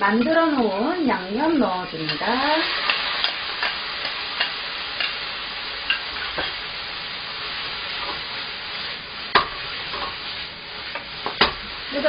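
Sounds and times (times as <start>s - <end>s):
noodles sizzling in frying pan: 0.0s - 12.0s.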